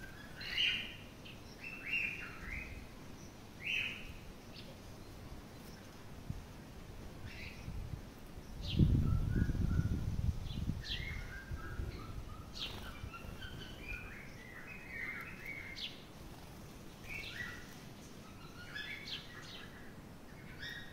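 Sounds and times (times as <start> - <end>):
birds chattering and warbling: 0.0 - 20.9.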